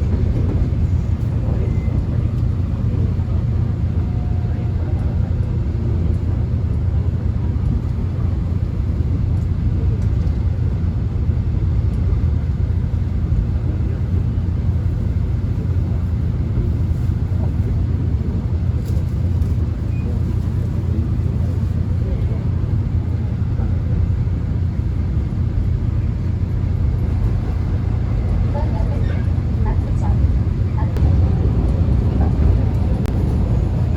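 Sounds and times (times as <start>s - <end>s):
subway train rumble: 0.0s - 33.9s.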